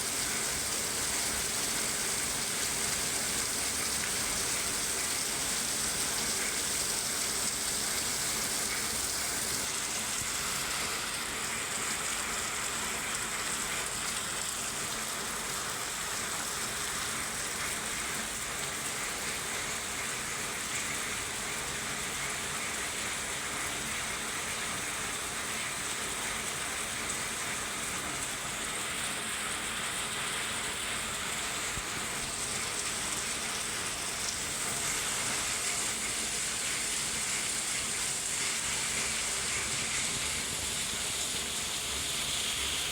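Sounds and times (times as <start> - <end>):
steady rain in a forest: 0.0 - 42.9.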